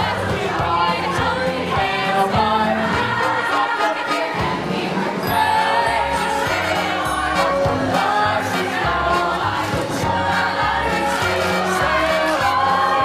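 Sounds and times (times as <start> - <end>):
ensemble singing in chorus: 0.0 - 13.0
instrumental accompaniment: 1.8 - 13.0.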